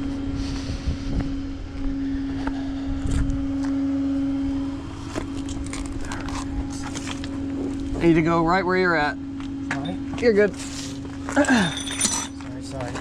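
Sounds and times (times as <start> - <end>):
tow truck engine humming: 1.4 - 12.7.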